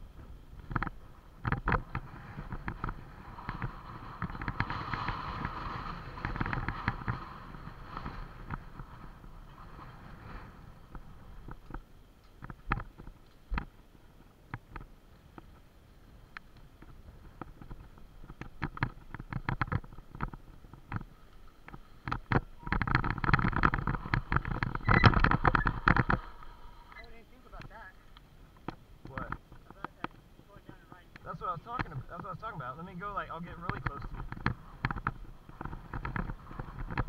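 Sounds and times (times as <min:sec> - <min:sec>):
bicycle rattling on rough trail: 0:00.0 - 0:37.0.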